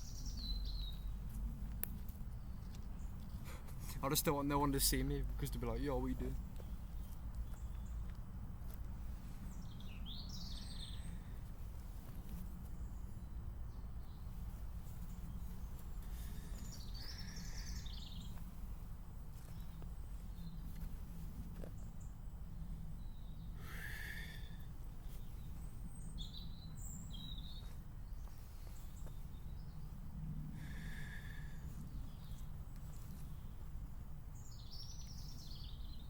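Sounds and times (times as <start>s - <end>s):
birds chirping: 0.0s - 36.0s
low outdoor rumble: 0.0s - 36.0s.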